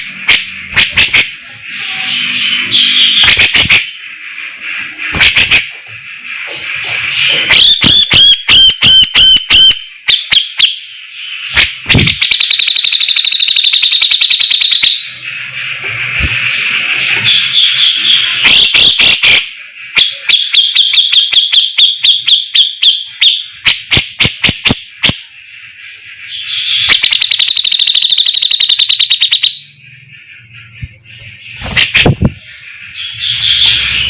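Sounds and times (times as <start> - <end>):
bulbul singing: 0.0 - 34.0.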